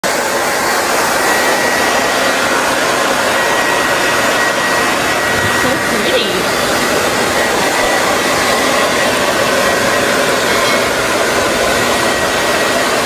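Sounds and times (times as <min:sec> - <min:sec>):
hair dryer blowing air: 0:00.0 - 0:13.0.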